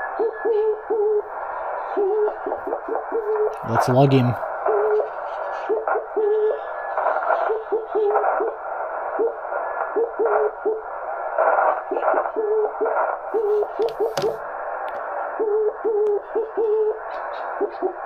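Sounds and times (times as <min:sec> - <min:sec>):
radio band hiss: 0:00.0 - 0:18.0.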